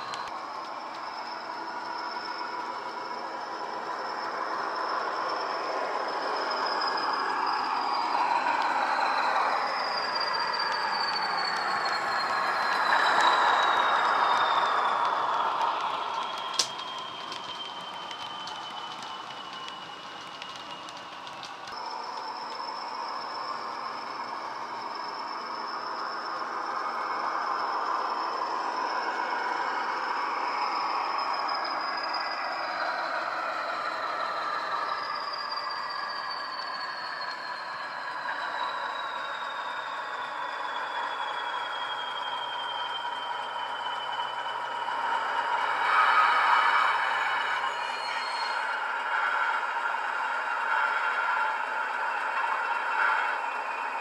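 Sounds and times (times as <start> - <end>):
high falling whistle: 0.0 - 54.0
model diesel locomotive engine: 0.0 - 54.0.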